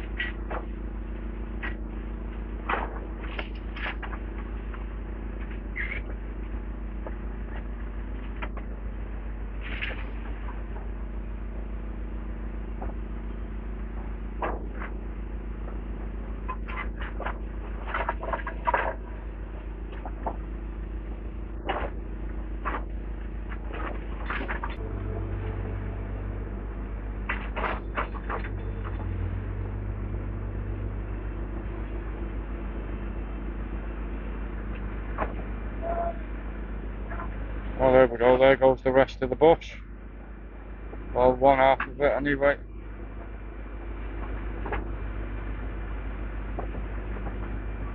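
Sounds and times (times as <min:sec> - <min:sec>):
deeper engine hum: 0:00.0 - 0:47.9
excavator engine running: 0:00.0 - 0:47.9.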